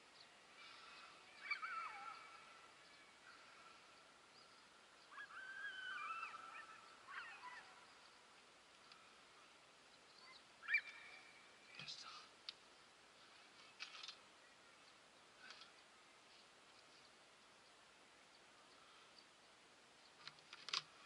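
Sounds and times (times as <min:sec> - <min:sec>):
faint gliding bird calls: 0:00.0 - 0:21.0.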